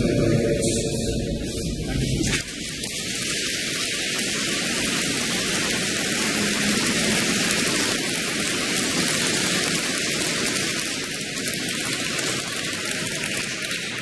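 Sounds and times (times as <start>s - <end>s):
audience applause: 2.4s - 14.0s.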